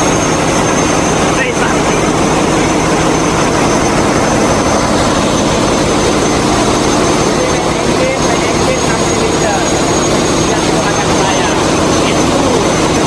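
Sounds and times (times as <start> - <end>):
engine room machinery din: 0.0 - 13.0.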